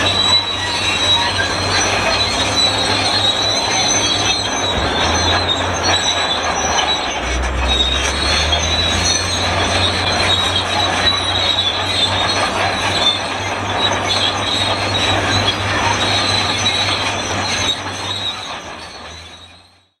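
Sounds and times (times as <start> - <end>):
bulldozer tracks squealing: 0.0 - 20.0
diesel engine drone: 0.0 - 20.0.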